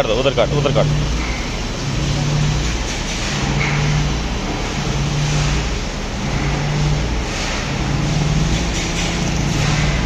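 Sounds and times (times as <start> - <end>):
machine running hiss and hum: 0.0 - 10.0.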